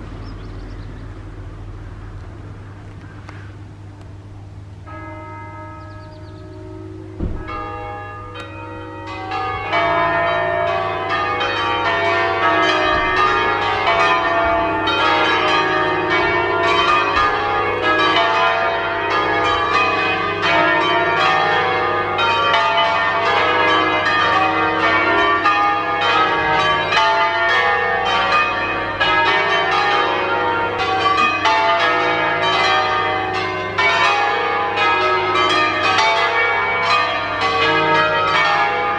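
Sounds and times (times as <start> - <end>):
church bells ringing: 3.5 - 38.9.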